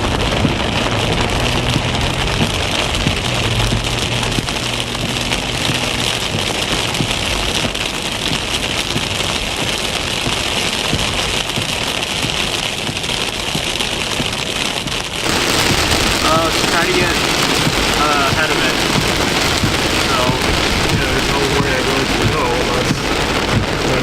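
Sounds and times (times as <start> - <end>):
rain beating on a car: 0.0 - 24.0.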